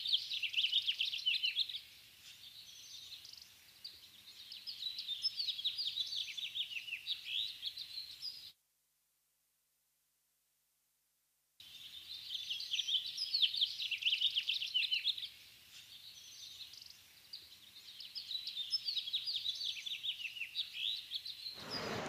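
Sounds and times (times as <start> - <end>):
small birds chirping: 0.0 - 8.6, 11.6 - 22.0.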